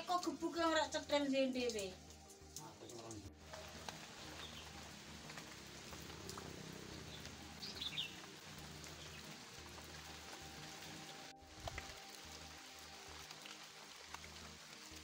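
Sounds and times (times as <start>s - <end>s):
rain falling on leaves and road: 0.0s - 15.0s.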